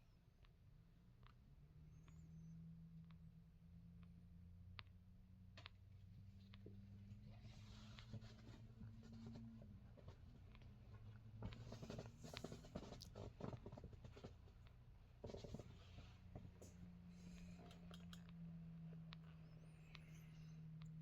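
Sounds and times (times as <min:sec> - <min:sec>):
low steady hum: 0:00.0 - 0:21.0
faint scattered clicks: 0:00.2 - 0:21.0.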